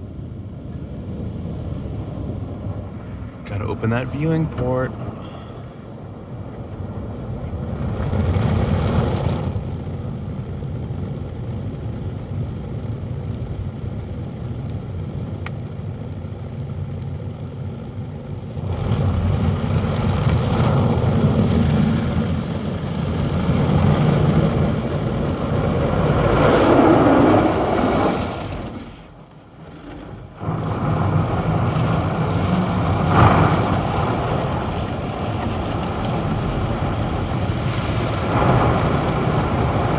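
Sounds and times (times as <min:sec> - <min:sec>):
car wash spraying water: 0:00.0 - 0:39.9.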